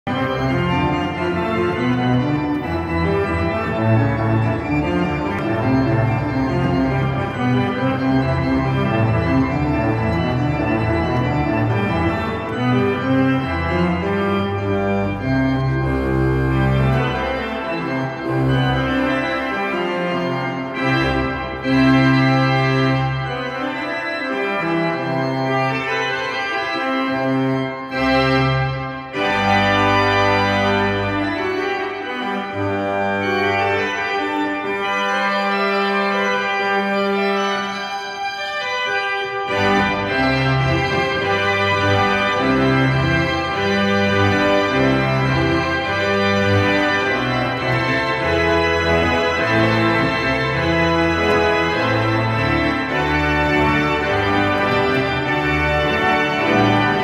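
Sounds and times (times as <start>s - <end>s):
low organ pedal notes: 0.1s - 57.0s
pipe organ playing: 0.1s - 57.0s.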